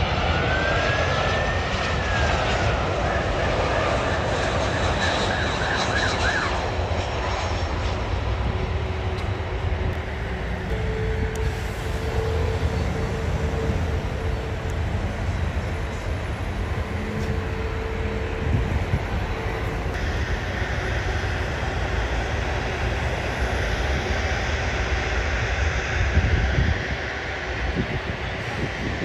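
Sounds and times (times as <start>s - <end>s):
jet airliner passing overhead: 0.0s - 29.0s
vehicle engine and road noise: 0.0s - 29.0s.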